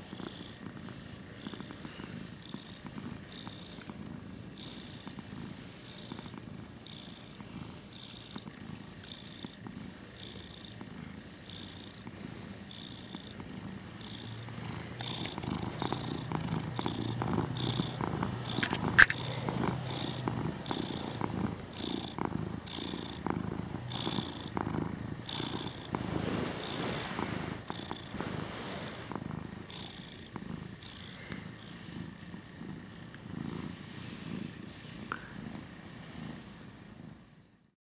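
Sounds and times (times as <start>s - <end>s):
cat purring: 0.0s - 37.7s.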